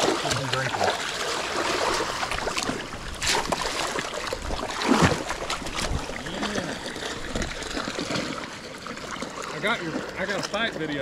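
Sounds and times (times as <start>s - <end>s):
shallow water sloshing and splashing: 0.0s - 11.0s.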